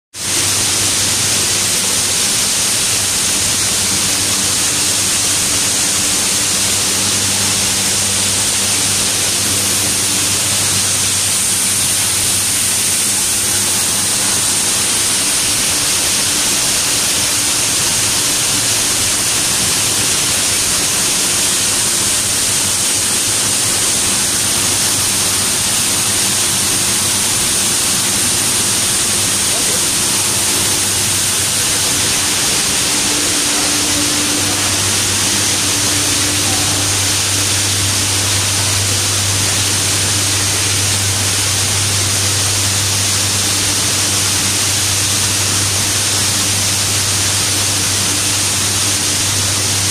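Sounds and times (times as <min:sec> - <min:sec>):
machinery hissing: 0:00.1 - 0:49.9
low machinery hum: 0:00.2 - 0:49.9.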